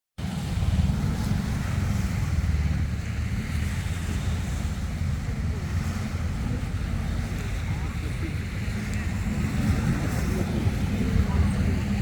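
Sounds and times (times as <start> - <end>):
surf: 0.2 - 12.0
wind buffeting microphone: 0.2 - 12.0.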